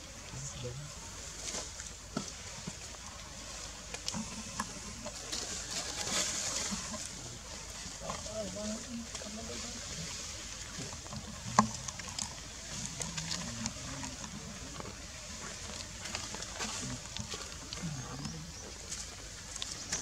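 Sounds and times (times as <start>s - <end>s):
faint low wavering sounds: 0.0s - 20.0s.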